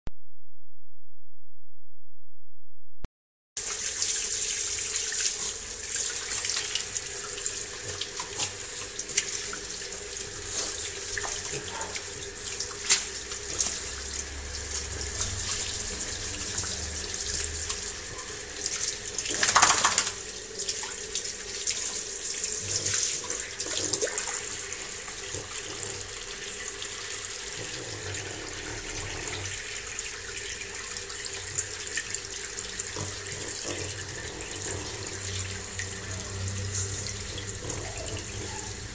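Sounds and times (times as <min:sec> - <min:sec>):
water running from a tap: 0:03.6 - 0:38.9.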